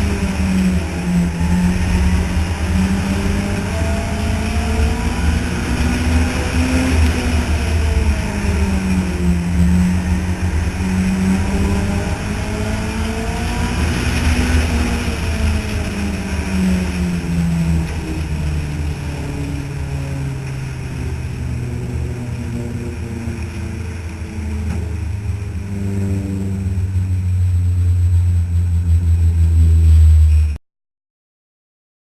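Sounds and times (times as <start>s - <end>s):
race car engines: 0.0s - 30.6s.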